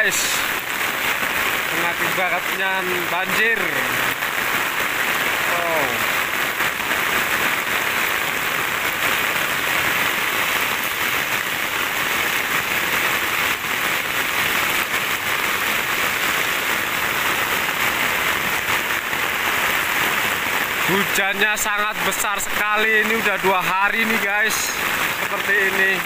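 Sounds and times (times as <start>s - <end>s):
heavy rain on pavement: 0.0s - 26.0s.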